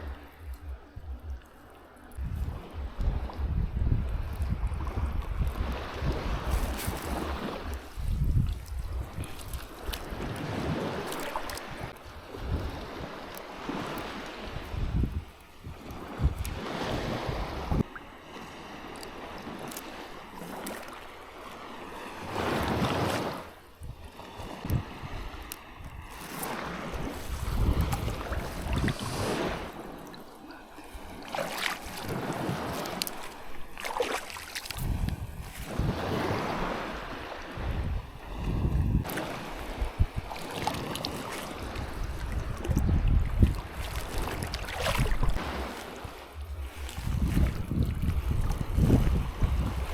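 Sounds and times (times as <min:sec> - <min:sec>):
wind on microphone: 0:00.0 - 0:18.0, 0:21.9 - 0:49.9
water sloshing around boat: 0:00.0 - 0:49.9.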